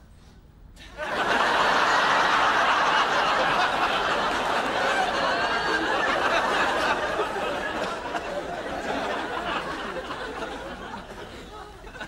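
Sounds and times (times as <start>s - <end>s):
audience laughing: 0.9s - 12.0s.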